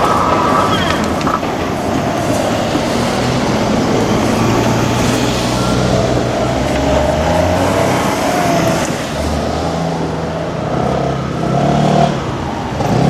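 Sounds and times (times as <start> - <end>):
car engines pulling away: 0.0 - 13.0.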